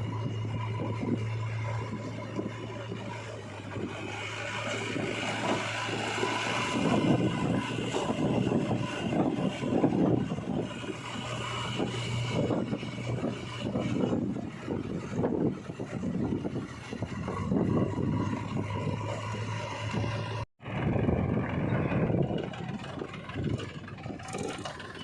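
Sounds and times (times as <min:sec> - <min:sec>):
heavy diesel engine running: 0:00.0 - 0:25.0
heavy rumbling: 0:00.0 - 0:25.0
wind buffeting microphone: 0:00.0 - 0:25.0.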